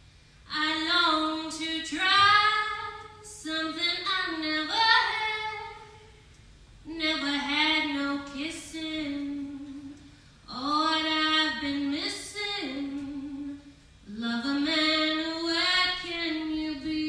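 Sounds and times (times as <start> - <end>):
woman singing unaccompanied: 0.5 - 6.1, 6.8 - 17.0.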